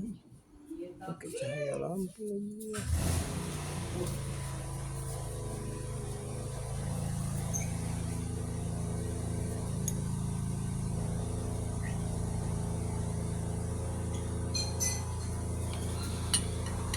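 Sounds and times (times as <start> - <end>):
low mechanical engine drone: 2.8 - 16.9.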